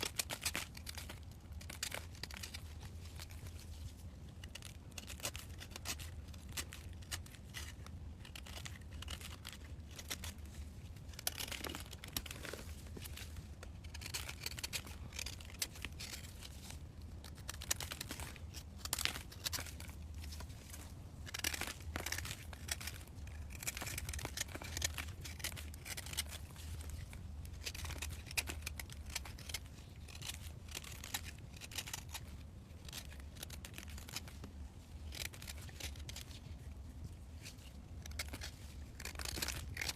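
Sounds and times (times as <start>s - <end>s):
dry material crunching and crackling: 0.0s - 39.9s.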